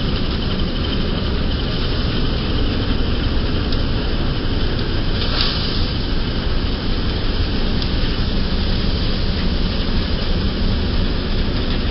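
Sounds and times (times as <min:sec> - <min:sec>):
thresher machine rumbling: 0:00.0 - 0:11.9.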